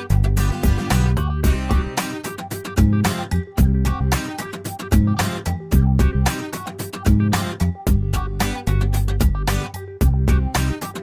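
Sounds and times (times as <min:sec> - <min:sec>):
funk music with bass and guitar: 0:00.0 - 0:11.0.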